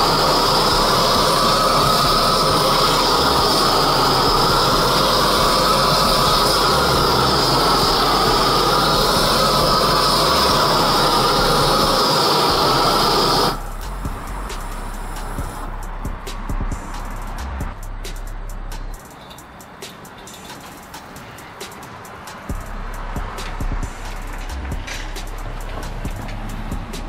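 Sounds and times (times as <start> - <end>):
propane torch hissing: 0.0 - 17.4, 18.9 - 27.0.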